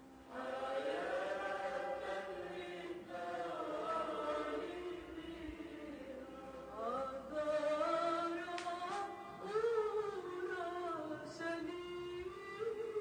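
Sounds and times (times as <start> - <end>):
slow vocal chant: 0.0 - 13.0.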